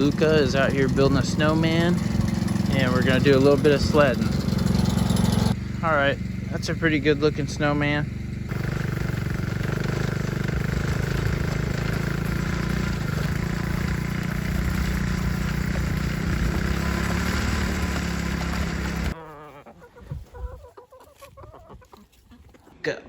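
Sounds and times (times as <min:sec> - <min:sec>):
small engine running: 0:00.0 - 0:19.2.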